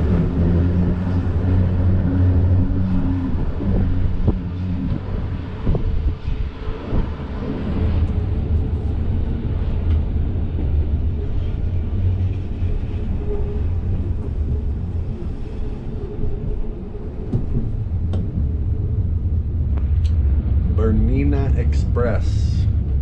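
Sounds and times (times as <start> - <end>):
faint hum: 0.0 - 23.0
train wheels rumbling on track: 0.0 - 23.0.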